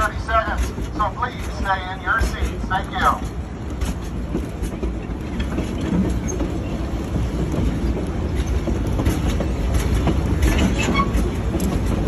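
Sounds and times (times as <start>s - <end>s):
train clicks and clatter: 0.0s - 12.0s
train wheels rumbling on rails: 0.0s - 12.0s.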